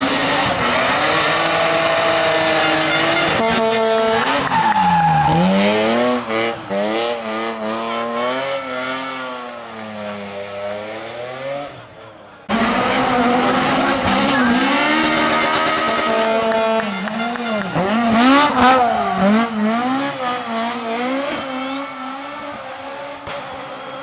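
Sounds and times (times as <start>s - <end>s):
car driving off: 0.0s - 24.0s
rally car engines revving: 0.0s - 24.0s.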